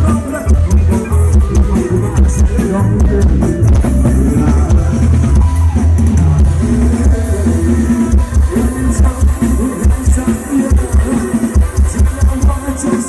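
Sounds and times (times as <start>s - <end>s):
live band over loudspeakers: 0.0s - 13.0s.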